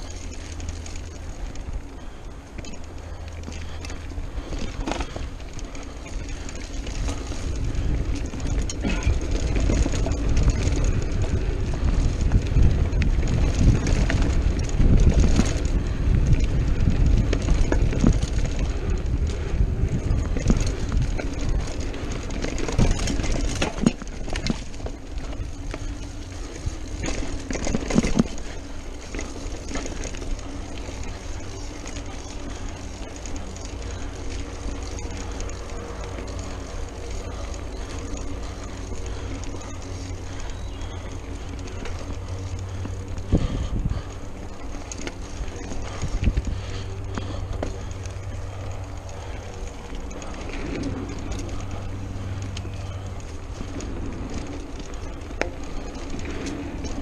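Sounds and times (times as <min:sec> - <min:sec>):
bike rattling: 0:00.0 - 0:57.0
bike tyres rumbling on dirt: 0:00.0 - 0:57.0
wind buffeting microphone: 0:00.0 - 0:57.0.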